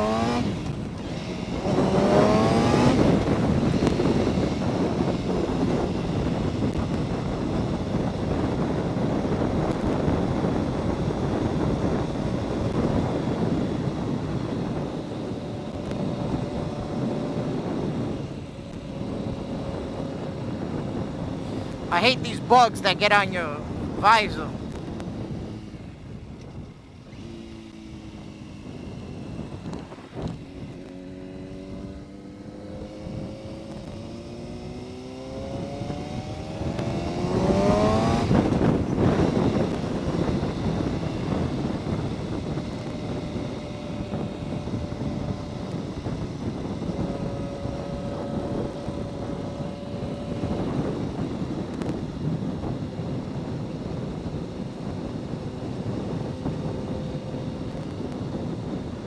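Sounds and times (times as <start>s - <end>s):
motorcycle engine accelerating: 0.0s - 59.0s
wind rush: 0.0s - 59.0s.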